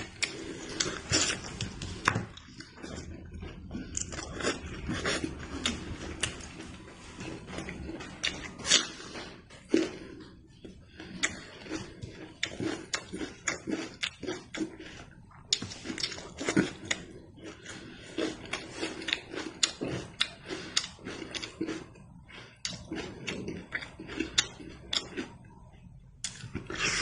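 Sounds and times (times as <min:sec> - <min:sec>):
chewing meat with smacking: 0:00.0 - 0:27.0.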